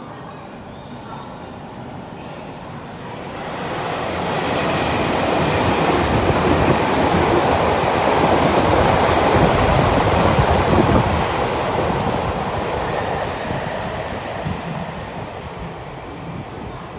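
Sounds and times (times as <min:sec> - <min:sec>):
train wheels rumbling on rail: 0:02.5 - 0:16.9.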